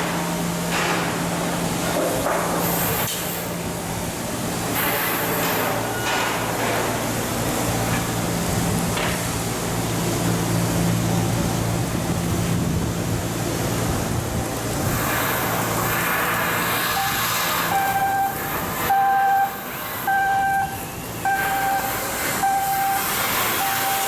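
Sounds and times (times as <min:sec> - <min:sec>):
machinery hum and hiss: 0:00.0 - 0:24.0.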